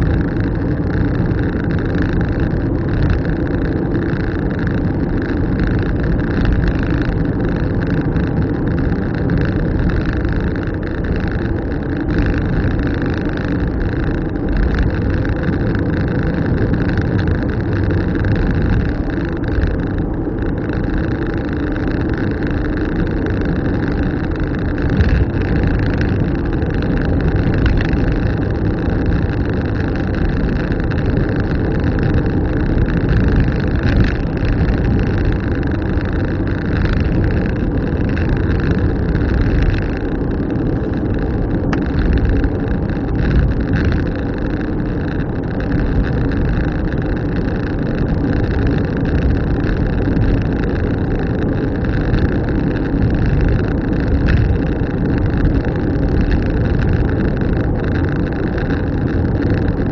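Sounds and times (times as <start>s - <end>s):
car engine and tyre road noise: 0.0s - 59.9s.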